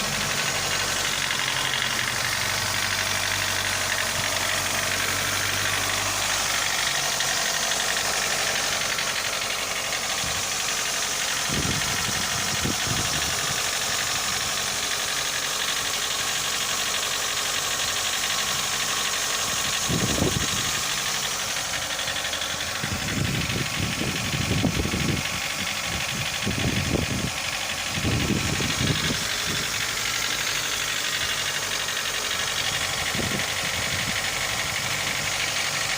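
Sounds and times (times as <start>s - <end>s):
car engine idling with knock: 0.0s - 35.9s.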